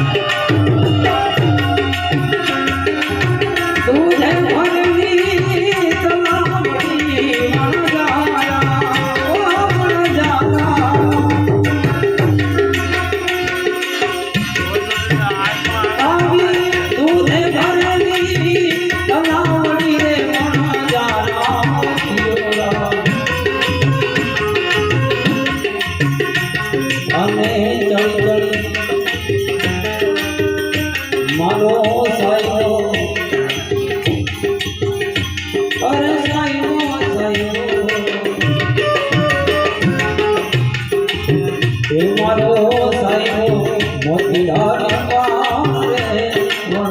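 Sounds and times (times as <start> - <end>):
tabla playing steady rhythm: 0.0 - 46.9.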